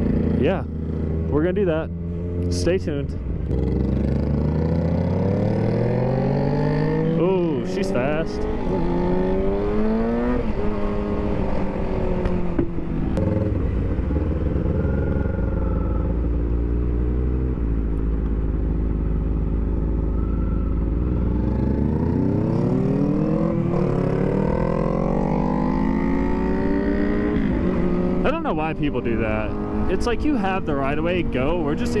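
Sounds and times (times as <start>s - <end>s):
vehicle engine revving: 3.3s - 18.0s, 21.0s - 32.0s.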